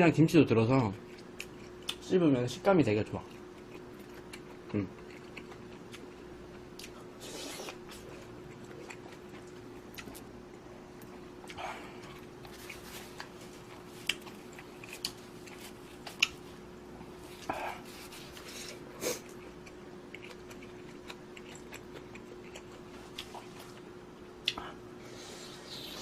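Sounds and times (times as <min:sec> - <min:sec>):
faint steady hum: 0:00.0 - 0:26.0
person chewing food: 0:01.0 - 0:02.0, 0:03.2 - 0:26.0.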